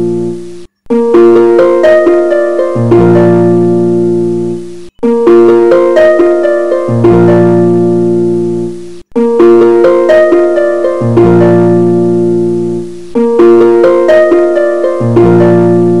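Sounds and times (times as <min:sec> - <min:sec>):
plucked piano-like melody: 0:00.0 - 0:16.0.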